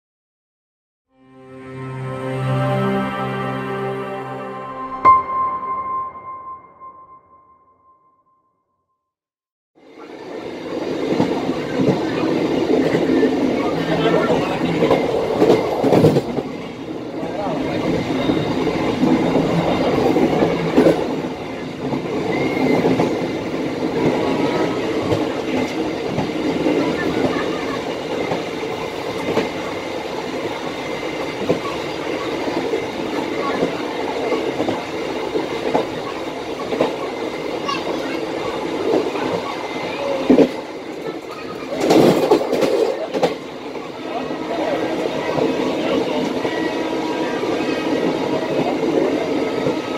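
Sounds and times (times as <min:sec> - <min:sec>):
train wheels rumbling on rails: 0:09.9 - 0:49.9.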